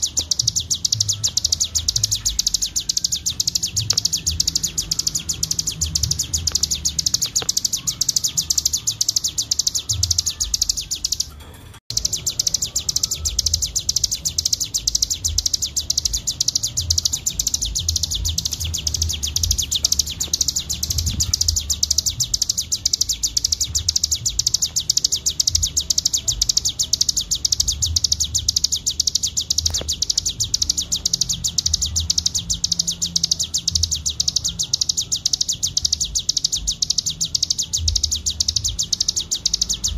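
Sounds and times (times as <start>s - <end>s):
bird singing a chattering trill: 0.0s - 39.9s.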